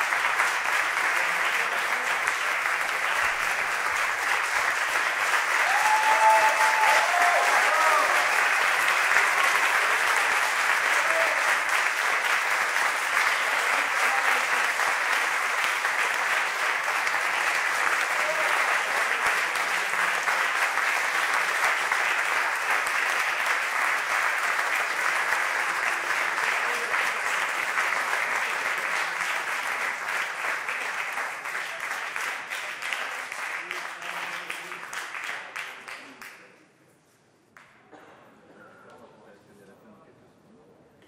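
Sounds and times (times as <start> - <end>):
audience applauding: 0.0 - 36.5.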